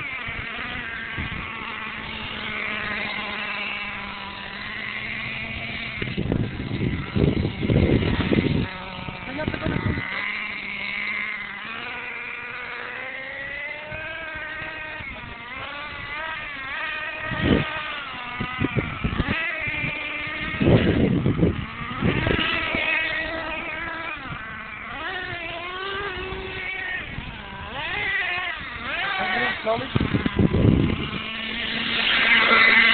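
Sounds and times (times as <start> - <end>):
toy truck motor whining: 0.0 - 32.9.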